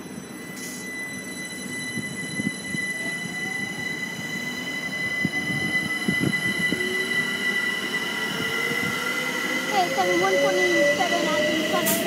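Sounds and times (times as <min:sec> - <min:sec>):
electric train high whine: 0:00.0 - 0:12.0.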